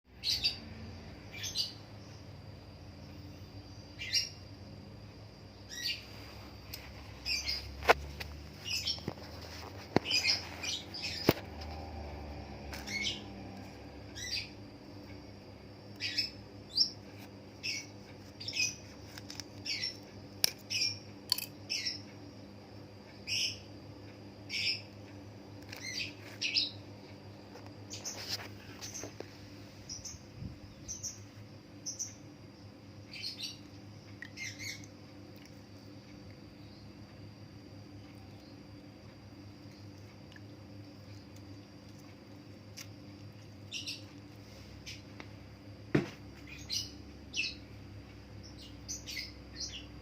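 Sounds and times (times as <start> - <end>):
small bird chirping: 0.1 - 50.0.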